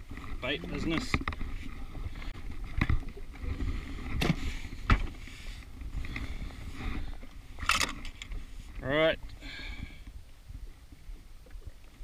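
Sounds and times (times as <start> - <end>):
low rumble of wind and water: 0.0 - 12.0.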